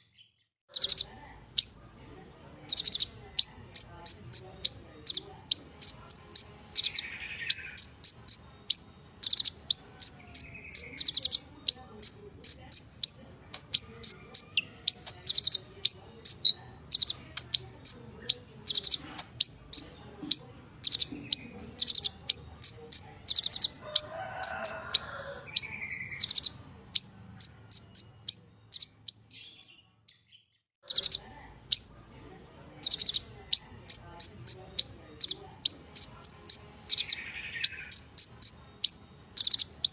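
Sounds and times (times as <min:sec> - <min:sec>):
harsh buzzy bird trills: 0:00.0 - 0:01.9, 0:02.7 - 0:32.0, 0:32.8 - 0:39.9.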